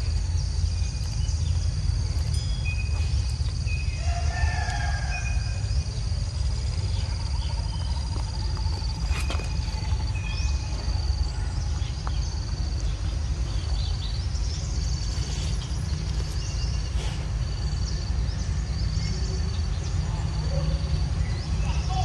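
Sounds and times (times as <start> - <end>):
low rumble: 0.0 - 20.0
insect and bird chirps: 0.0 - 22.0.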